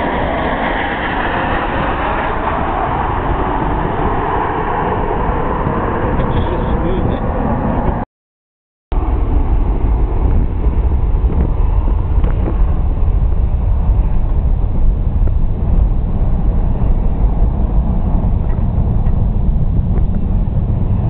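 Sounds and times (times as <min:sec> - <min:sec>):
jet engines rumbling: 0:00.0 - 0:08.1, 0:08.9 - 0:21.0.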